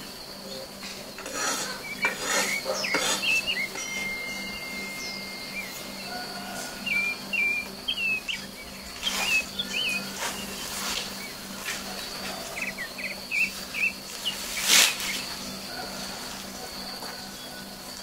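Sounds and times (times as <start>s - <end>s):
high insect buzz: 0.0s - 18.0s
small birds chirping: 0.0s - 18.0s.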